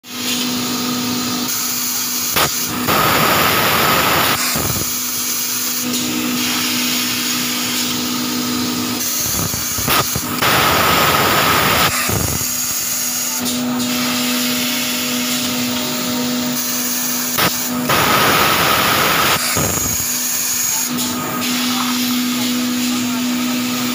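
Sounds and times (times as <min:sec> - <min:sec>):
machine humming: 0:00.9 - 0:23.9.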